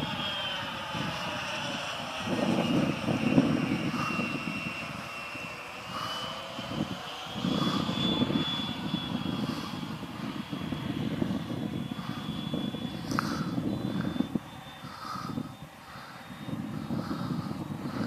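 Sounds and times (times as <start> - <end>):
gusty low rumble: 0.0 - 18.0
model jet fan whine: 0.0 - 18.0.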